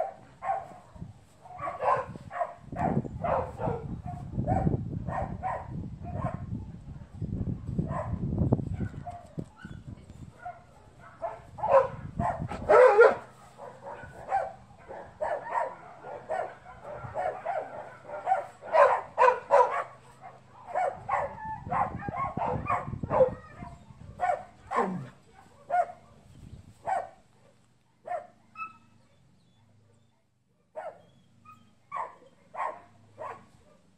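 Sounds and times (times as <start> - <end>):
dog barking: 0.0 - 26.2, 26.8 - 28.9, 30.6 - 33.9.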